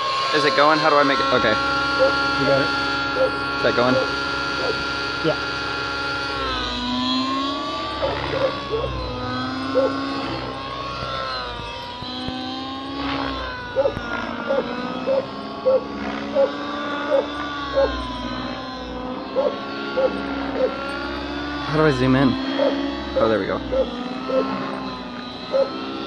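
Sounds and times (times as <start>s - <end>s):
model helicopter engine running: 0.0s - 26.0s.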